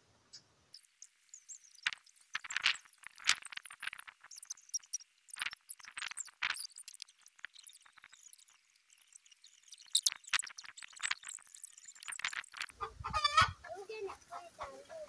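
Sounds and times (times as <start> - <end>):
high squeaky chirps: 0.7 - 13.6.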